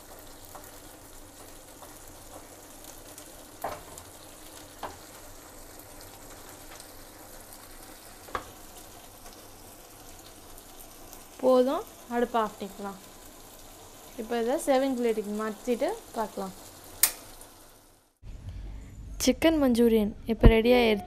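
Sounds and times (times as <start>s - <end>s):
gravy bubbling and sizzling: 0.0s - 18.2s.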